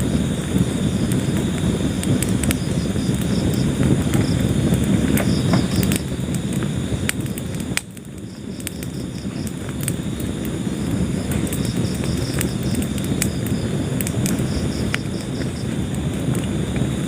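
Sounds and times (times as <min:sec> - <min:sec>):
crickets chirping: 0:00.0 - 0:17.0
wood fire crackling and popping: 0:00.0 - 0:17.0.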